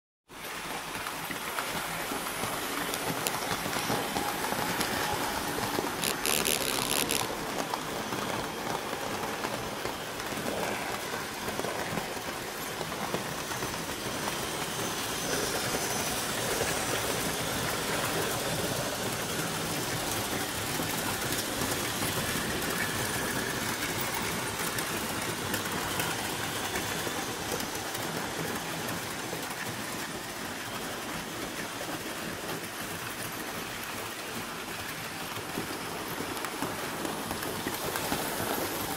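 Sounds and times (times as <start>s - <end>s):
model train wheels clattering on track: 0.4s - 38.9s
model train motor: 1.0s - 38.9s.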